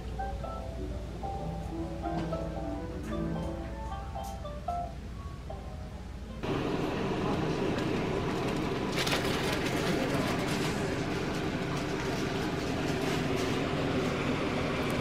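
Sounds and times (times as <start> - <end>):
low background rumble and hiss: 0.0 - 15.0.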